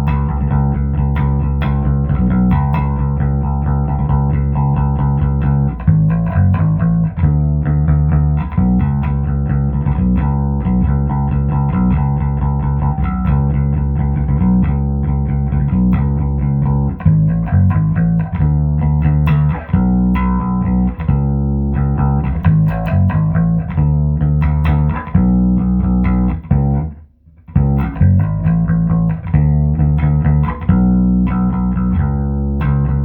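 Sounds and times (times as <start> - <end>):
electric bass guitar plucked notes: 0.0 - 33.0.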